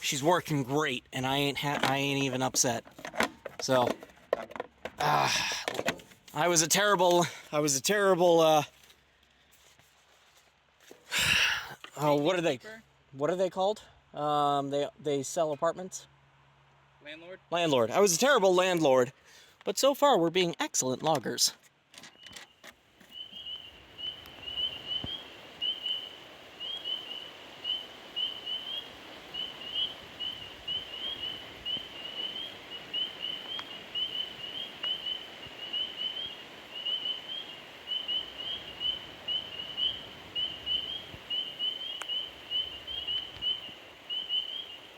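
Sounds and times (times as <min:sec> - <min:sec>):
faint open air hiss: 0:00.0 - 0:44.9.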